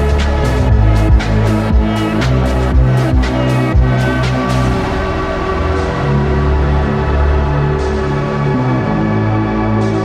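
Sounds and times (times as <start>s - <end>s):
deep bass note: 0.0s - 10.0s.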